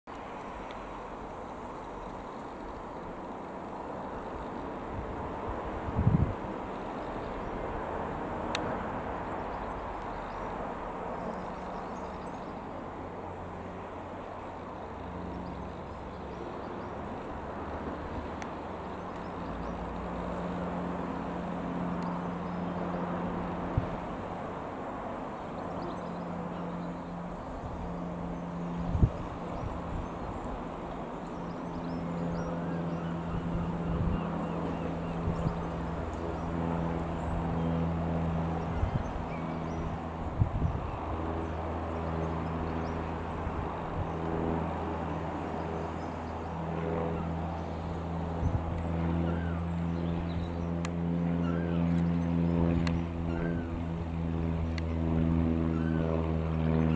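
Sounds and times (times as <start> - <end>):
wind: 0.0 - 56.9
airplane piston engine running: 0.9 - 56.9.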